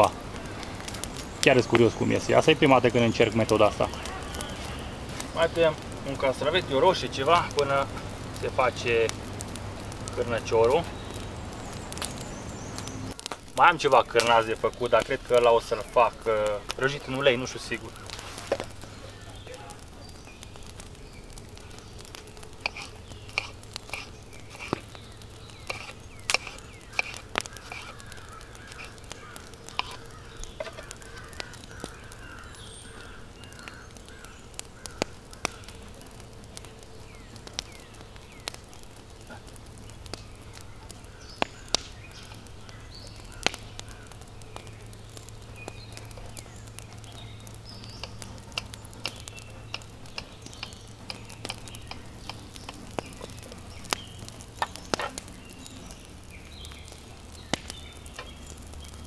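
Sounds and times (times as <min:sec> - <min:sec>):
birds calling: 0:00.0 - 0:59.0
campfire crackling and popping: 0:00.0 - 0:59.0.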